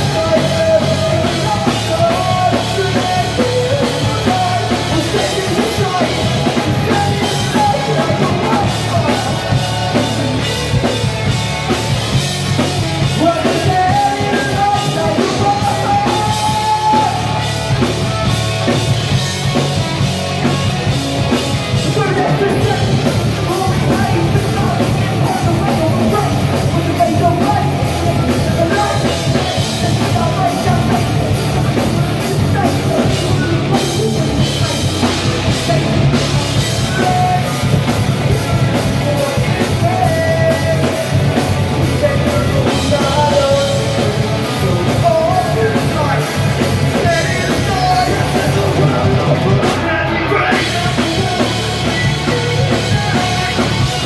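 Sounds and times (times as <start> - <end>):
bass guitar: 0.0 - 54.0
drum kit: 0.0 - 54.0
electric guitars: 0.0 - 54.0
person singing: 0.0 - 54.0.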